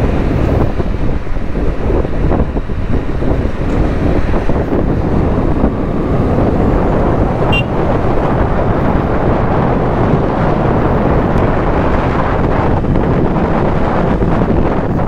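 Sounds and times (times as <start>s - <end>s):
motorcycle engine accelerating: 0.0s - 15.0s
wind buffeting microphone: 0.0s - 15.0s.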